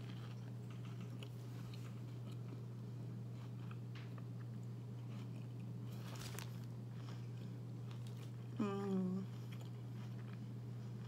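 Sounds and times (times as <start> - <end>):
person chewing: 0.0 - 8.6, 9.2 - 11.0
steady low hum: 0.0 - 11.0.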